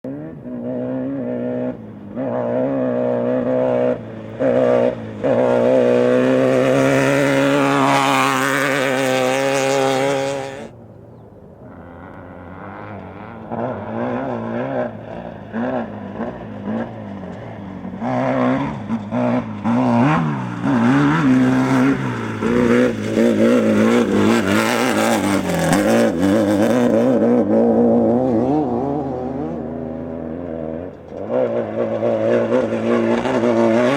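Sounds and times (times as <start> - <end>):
buggy engine revving: 0.0 - 33.9.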